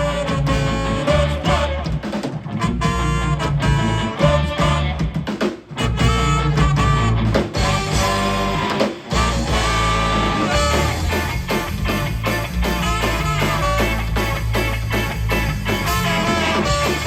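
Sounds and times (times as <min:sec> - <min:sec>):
bass guitar line: 0:00.0 - 0:17.0
drum beat: 0:00.0 - 0:17.0
electric guitar: 0:00.0 - 0:17.0.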